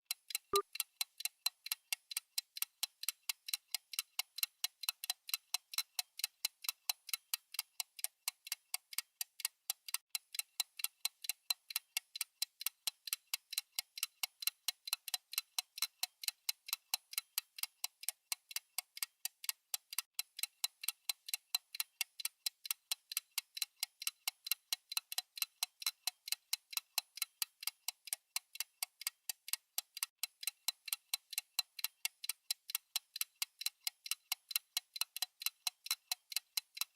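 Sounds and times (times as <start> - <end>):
clock ticking: 0.3 - 36.9.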